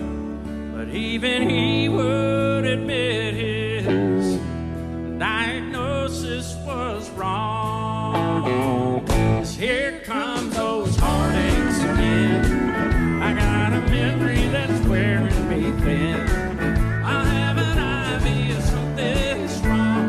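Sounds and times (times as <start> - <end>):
country band music: 0.0 - 20.0.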